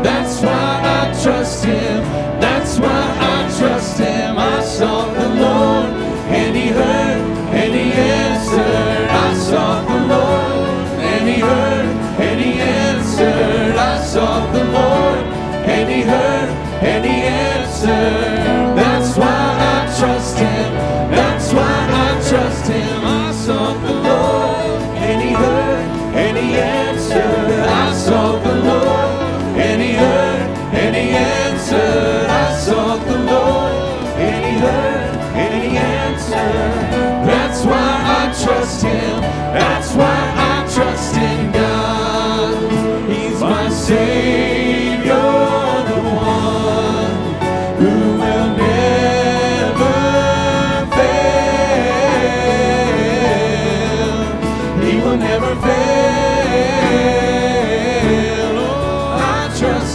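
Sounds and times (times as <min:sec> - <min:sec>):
band accompaniment: 0:00.0 - 0:59.9
group singing gospel song: 0:00.0 - 0:59.9.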